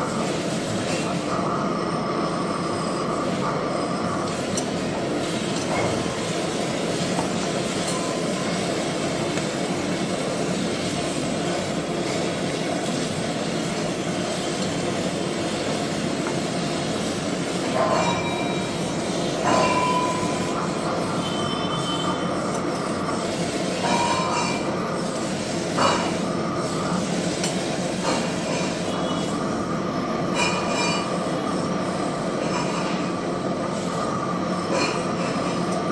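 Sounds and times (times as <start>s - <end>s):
welding torch flame hissing: 0.0s - 35.9s.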